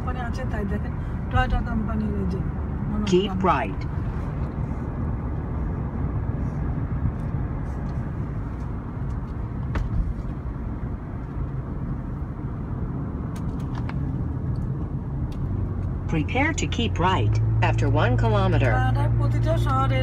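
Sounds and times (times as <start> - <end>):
car road noise from inside: 0.0 - 20.0.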